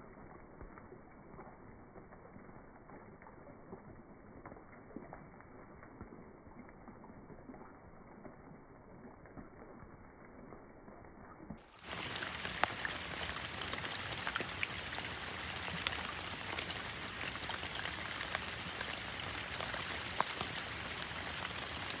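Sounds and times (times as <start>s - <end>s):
rain falling on pond: 0.0s - 22.0s.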